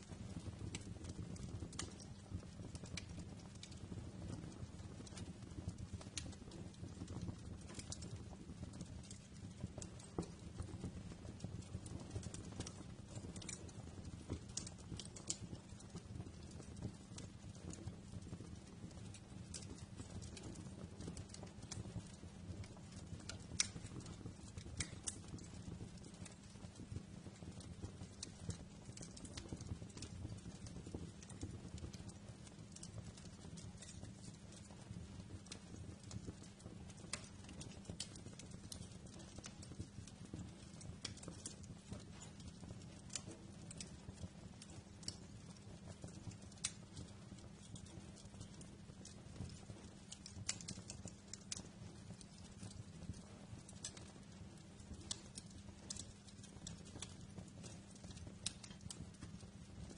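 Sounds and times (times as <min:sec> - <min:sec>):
fire crackling and popping: 0:00.0 - 0:59.9
wood fire rumbling: 0:00.0 - 0:59.9.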